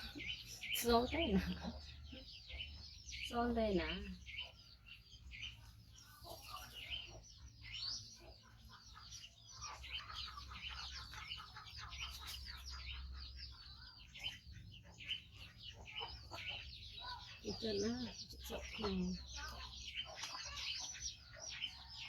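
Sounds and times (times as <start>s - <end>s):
small birds twittering: 0.0s - 22.0s.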